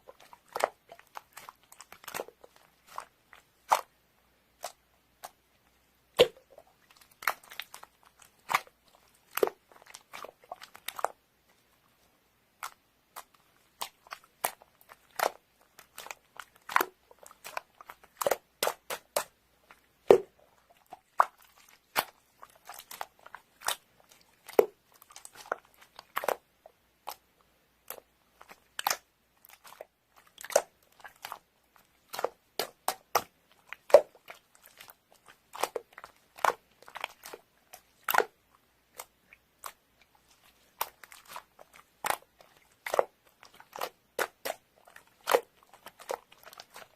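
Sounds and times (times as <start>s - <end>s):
crunching and chewing crisp food: 0.0s - 46.9s.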